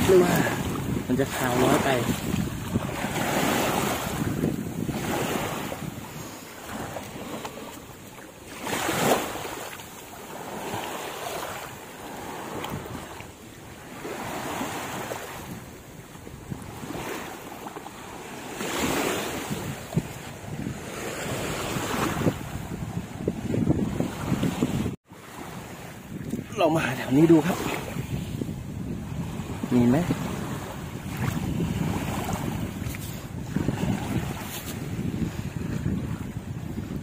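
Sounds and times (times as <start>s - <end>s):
waves washing on shore: 0.0s - 37.0s
wind buffeting microphone: 0.0s - 37.0s.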